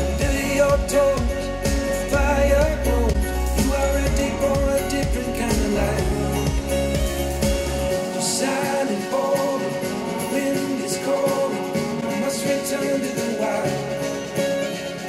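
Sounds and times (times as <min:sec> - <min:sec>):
song played through speakers: 0:00.0 - 0:15.0.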